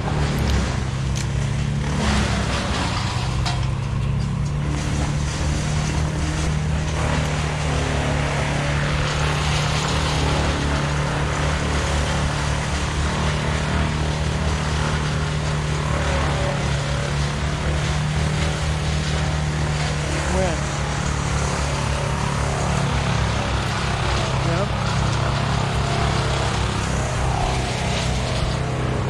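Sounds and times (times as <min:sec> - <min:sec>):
crane engine humming: 0:00.0 - 0:29.0.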